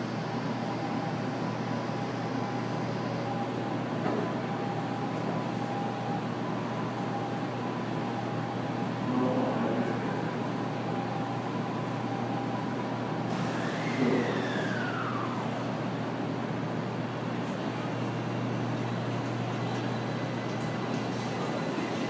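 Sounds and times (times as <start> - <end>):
train electrical hum and rushing: 0.0 - 22.0.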